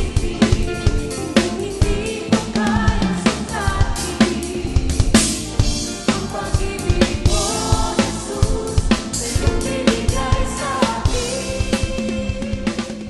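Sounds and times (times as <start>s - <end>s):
backing song instruments: 0.0s - 13.0s
drum kit playing: 0.0s - 13.0s.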